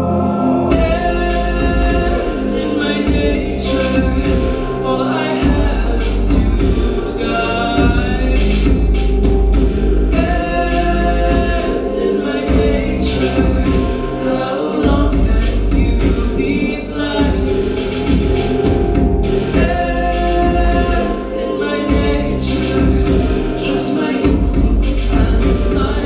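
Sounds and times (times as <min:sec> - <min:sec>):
man singing into a microphone: 0:00.0 - 0:18.7, 0:19.3 - 0:26.0
music with deep bass: 0:00.0 - 0:26.0.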